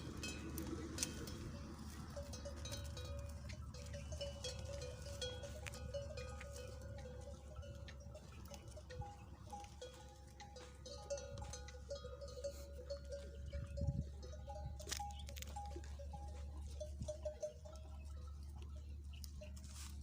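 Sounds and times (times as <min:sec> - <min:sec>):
livestock bells clinking: 0:00.0 - 0:20.0
low steady rumble: 0:00.0 - 0:20.0.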